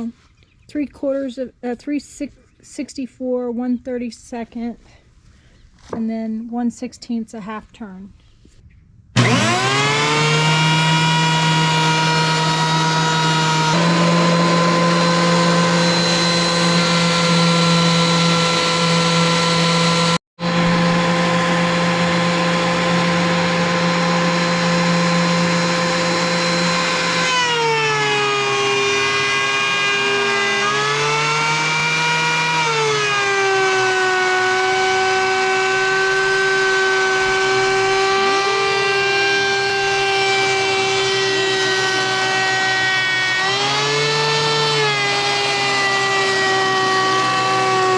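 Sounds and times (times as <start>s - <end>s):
electric planer cutting wood: 9.2s - 47.9s.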